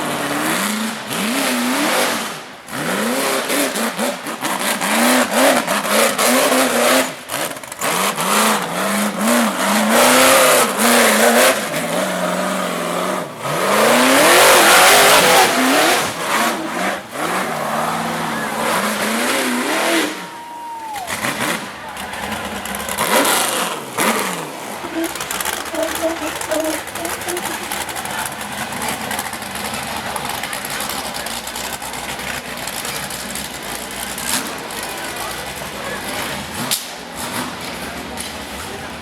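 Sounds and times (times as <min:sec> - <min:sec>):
buggy engine revving hard: 0:00.0 - 0:39.0.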